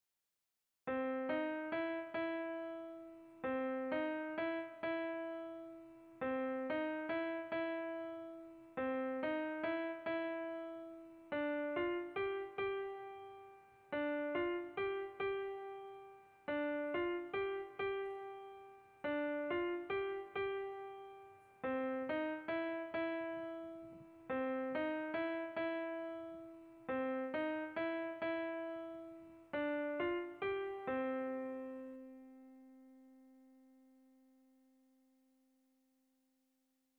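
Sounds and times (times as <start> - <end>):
electronic piano melody: 0.9 - 33.4.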